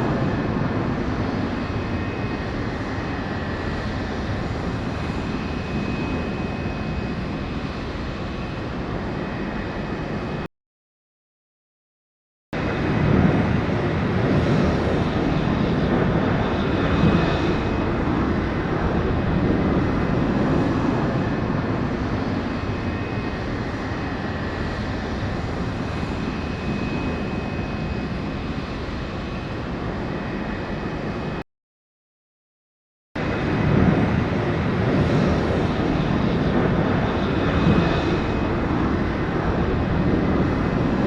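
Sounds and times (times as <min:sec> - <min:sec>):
aircraft engine rumble: 0:00.0 - 0:10.5, 0:12.6 - 0:31.4, 0:33.2 - 0:41.0.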